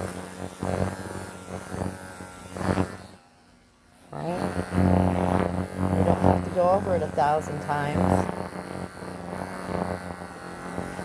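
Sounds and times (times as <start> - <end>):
electric clipper buzzing: 0.0 - 11.0.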